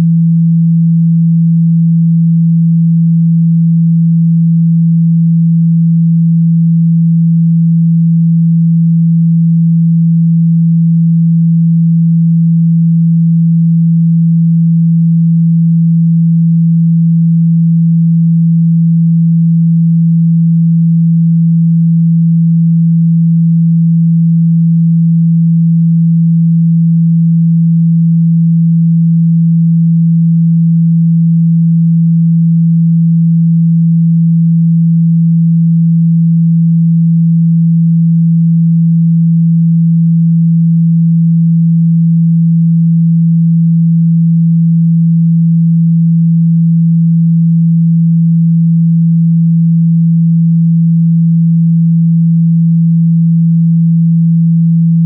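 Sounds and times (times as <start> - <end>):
low electronic tone: 0.0 - 55.0.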